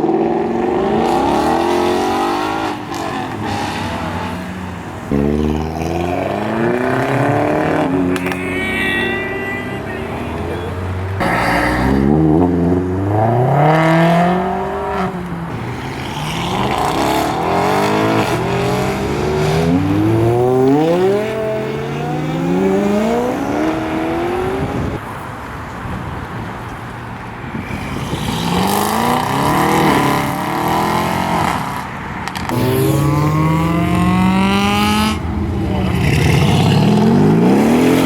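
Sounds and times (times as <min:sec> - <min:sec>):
car engines accelerating: 0:00.0 - 0:38.0.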